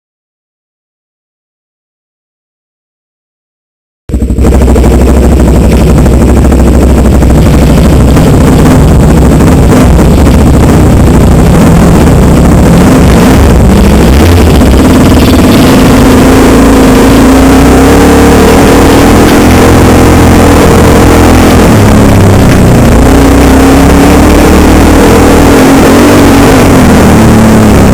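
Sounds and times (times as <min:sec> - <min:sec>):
dirt bike engine revving: 0:04.1 - 0:27.9.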